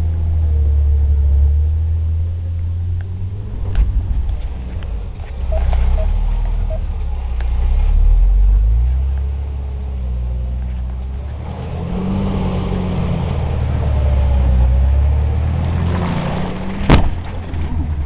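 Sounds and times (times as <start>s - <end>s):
engine revving under load: 0.0s - 18.0s.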